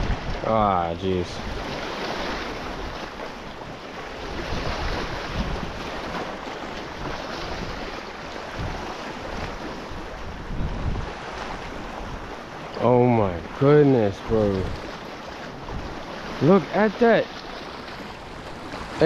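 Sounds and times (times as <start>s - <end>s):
rough surf washing in: 0.0s - 19.0s
wind buffeting microphone: 0.0s - 19.0s.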